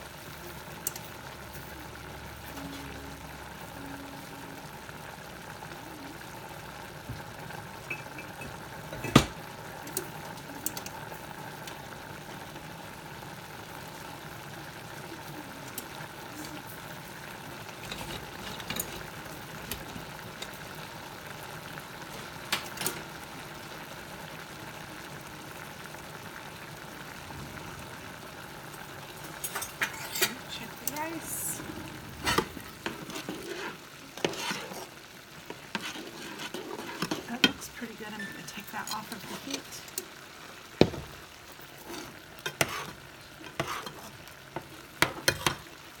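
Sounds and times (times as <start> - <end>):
stir-fry sizzling in a pan: 0.0 - 46.0.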